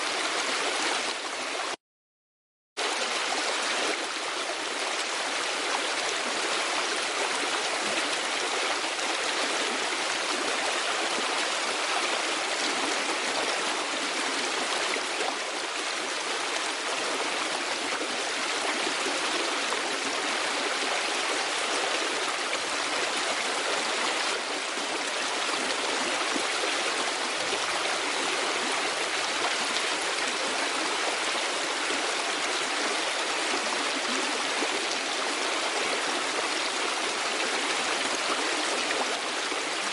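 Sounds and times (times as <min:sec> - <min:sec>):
stream running water: 0:00.0 - 0:01.8, 0:02.8 - 0:39.9.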